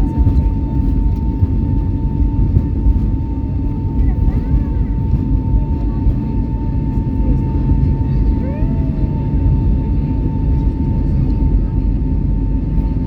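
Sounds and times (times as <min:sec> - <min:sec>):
jet engines heard from cabin: 0:00.0 - 0:13.0.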